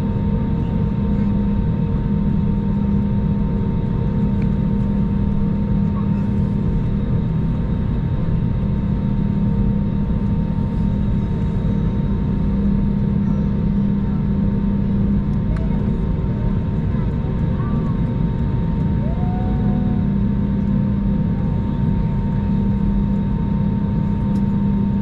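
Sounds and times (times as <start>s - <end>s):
jet engines roaring in cabin: 0.0s - 25.0s.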